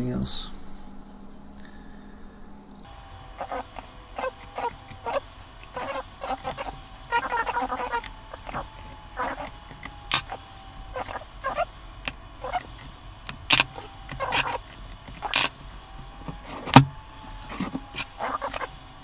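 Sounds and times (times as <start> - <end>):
short squeaks: 2.8 - 19.0
side cutters clicking and snapping: 3.4 - 19.0.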